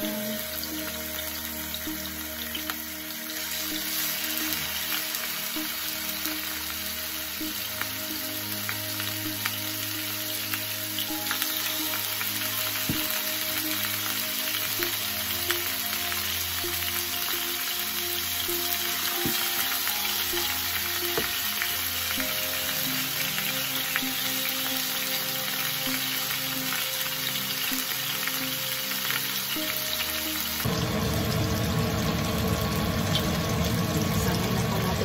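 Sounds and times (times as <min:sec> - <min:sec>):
chicken sizzling in oil: 0:00.0 - 0:35.0.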